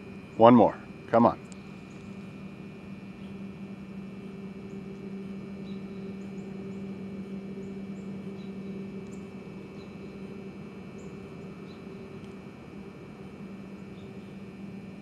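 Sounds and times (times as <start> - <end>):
low hum with overtone: 0.0 - 15.0.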